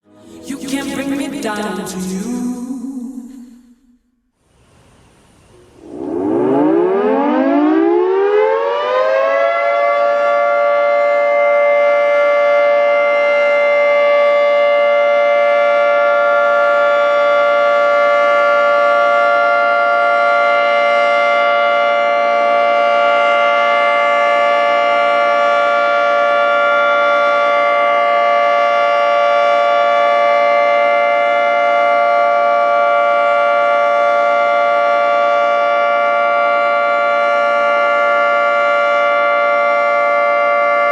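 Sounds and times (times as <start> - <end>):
warning siren steady chord: 0.0 - 40.9.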